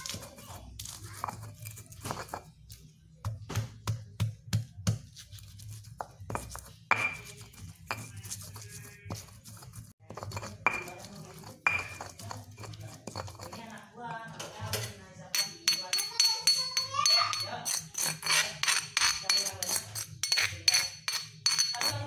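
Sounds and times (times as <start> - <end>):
pestle grinding scrapes: 0.0 - 2.5, 5.2 - 13.9, 15.4 - 22.0
stone pestle knocking and crunching: 3.2 - 13.8, 14.8 - 22.0.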